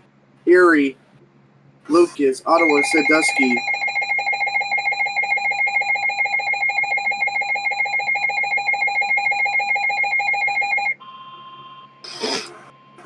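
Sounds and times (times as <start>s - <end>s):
harsh pulsing alarm beep: 2.5s - 13.0s.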